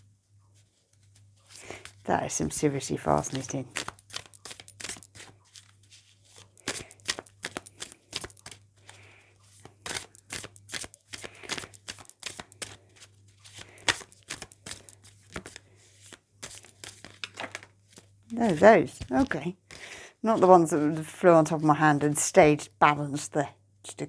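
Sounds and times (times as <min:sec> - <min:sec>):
cards being shuffled: 0:00.6 - 0:21.1.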